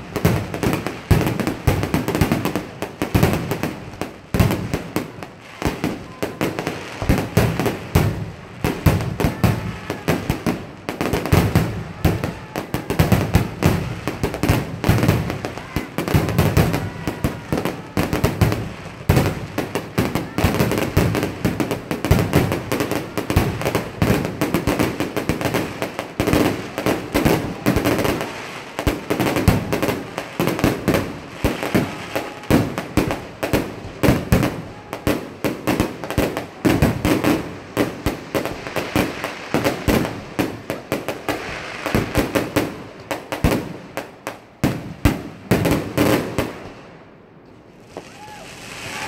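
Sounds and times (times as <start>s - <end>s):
fireworks bursting: 0.0s - 47.1s, 47.7s - 49.0s.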